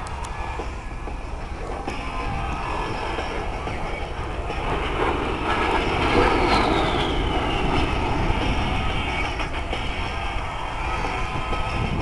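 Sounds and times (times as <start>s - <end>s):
jet engines passing: 0.0s - 12.0s.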